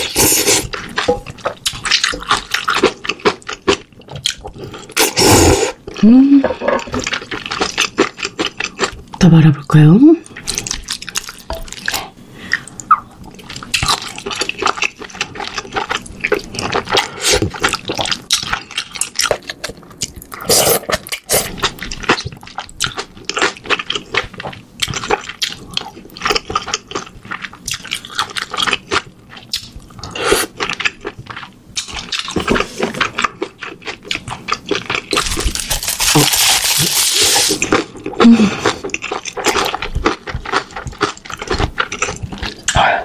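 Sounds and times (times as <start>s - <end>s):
wet chewing and slurping: 0.0s - 6.1s, 6.7s - 9.2s, 10.2s - 43.0s.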